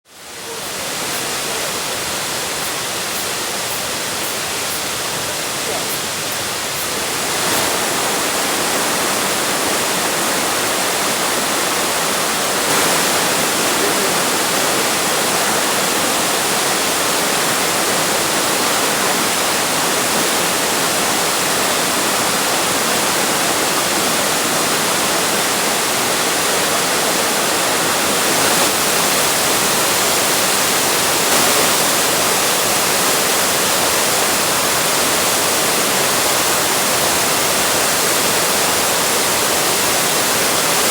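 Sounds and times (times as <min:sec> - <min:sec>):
waterfall rushing: 0:00.1 - 0:40.9.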